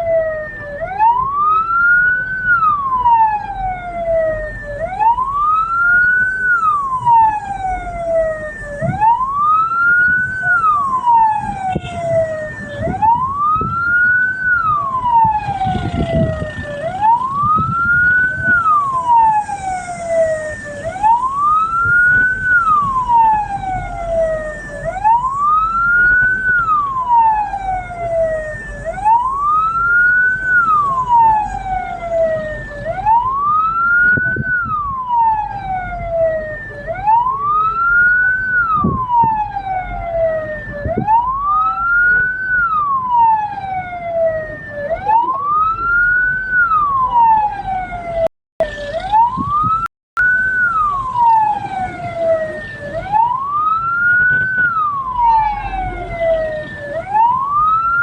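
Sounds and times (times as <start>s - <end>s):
low vehicle rumble: 0.0s - 58.0s
siren wailing: 0.0s - 58.0s.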